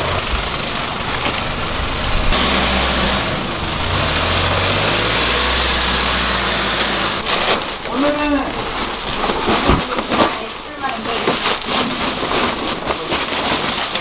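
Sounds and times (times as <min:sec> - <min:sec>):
motor vehicle engine running: 0:00.0 - 0:14.0.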